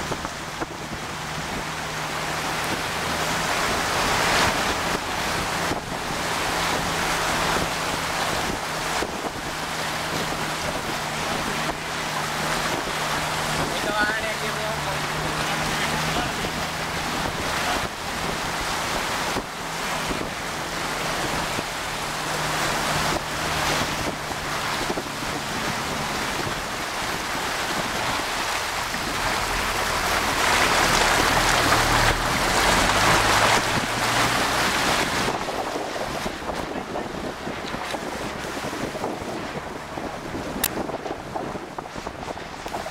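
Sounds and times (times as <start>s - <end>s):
low engine drone: 0.0s - 42.9s
rush of churned water: 0.0s - 42.9s
wind on microphone: 0.0s - 42.9s.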